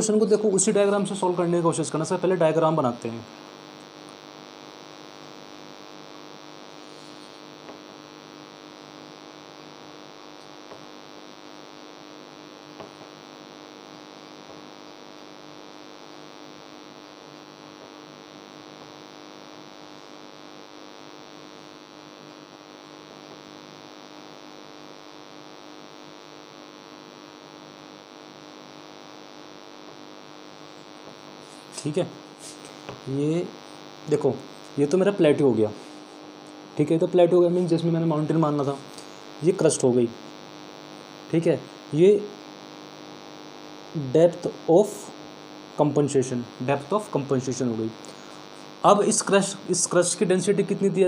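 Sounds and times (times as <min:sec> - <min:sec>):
steady electrical hum: 0:00.0 - 0:51.0.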